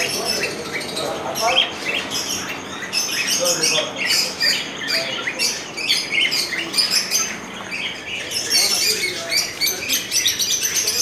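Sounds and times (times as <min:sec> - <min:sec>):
many small birds chirping: 0:00.0 - 0:11.0.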